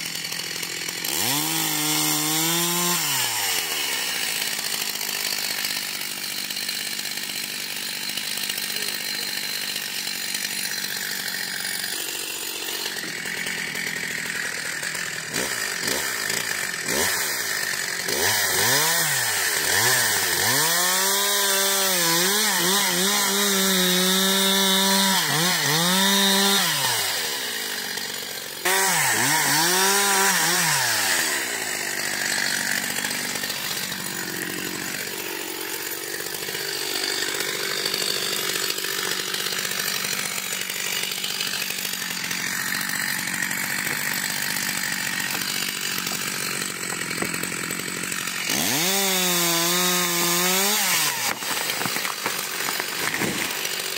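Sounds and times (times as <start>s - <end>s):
chainsaw cutting tree: 0.0s - 53.9s.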